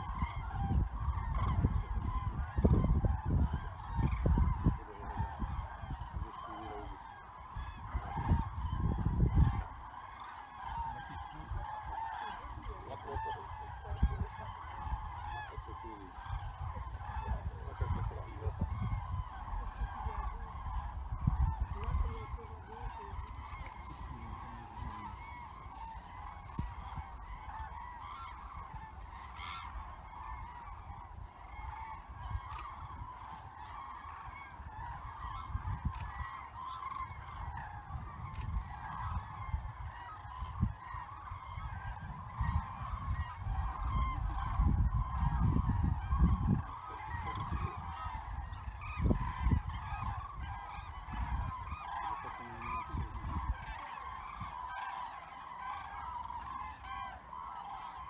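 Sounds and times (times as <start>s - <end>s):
cranes trumpeting: 0.0s - 58.0s.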